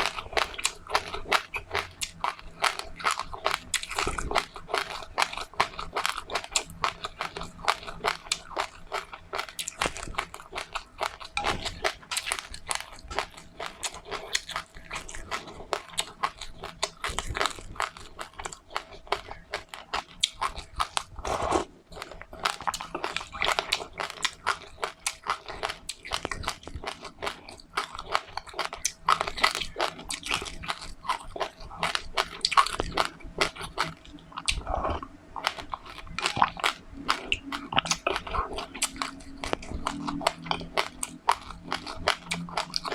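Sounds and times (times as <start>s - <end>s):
person chewing crunchy seeds: 0.0s - 42.9s.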